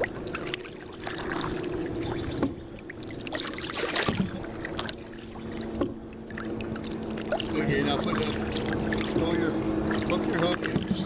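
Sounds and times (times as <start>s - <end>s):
knocks and clicks on hull: 0.0s - 11.0s
steady low hum: 0.0s - 11.0s
water splashing and trickling: 0.0s - 11.0s.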